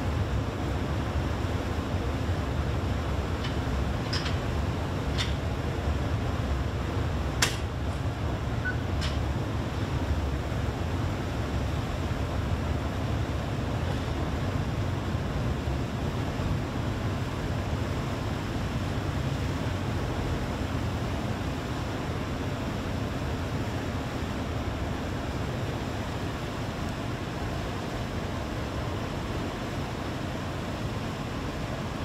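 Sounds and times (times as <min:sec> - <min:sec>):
ferry engine rumble: 0:00.0 - 0:32.0
wind and water rushing: 0:00.0 - 0:32.0.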